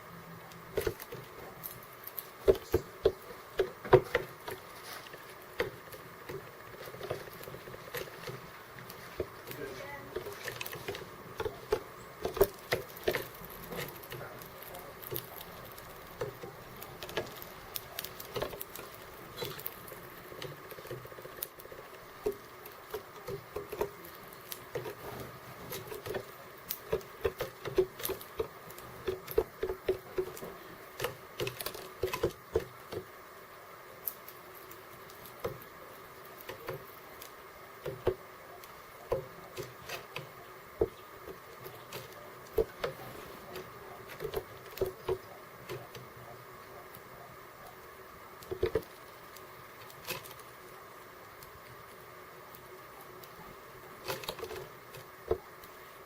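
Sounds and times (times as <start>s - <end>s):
birds pecking at seeds: 0.0s - 56.0s.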